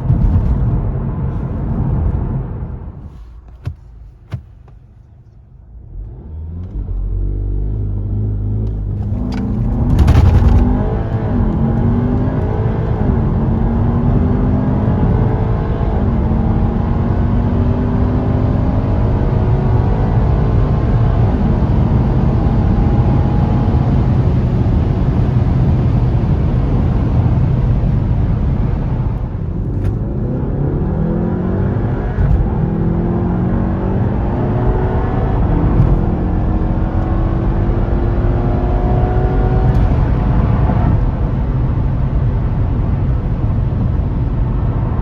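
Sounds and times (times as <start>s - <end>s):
road noise: 0.0s - 45.0s
car engine revving: 5.7s - 45.0s.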